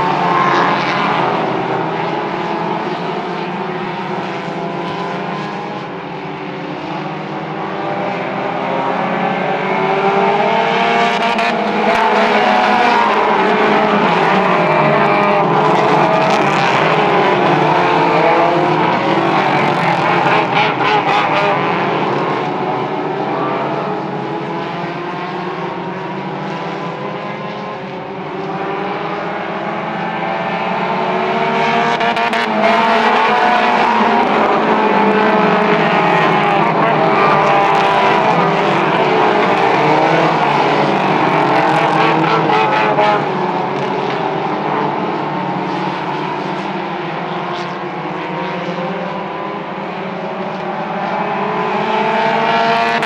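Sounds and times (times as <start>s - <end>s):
race car engines: 0.0s - 53.0s.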